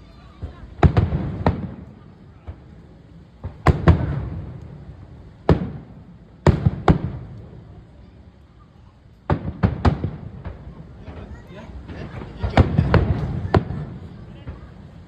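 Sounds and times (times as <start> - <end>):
low rolling echo: 0.0 - 15.0
firework shells bursting: 0.1 - 8.0, 9.0 - 15.0.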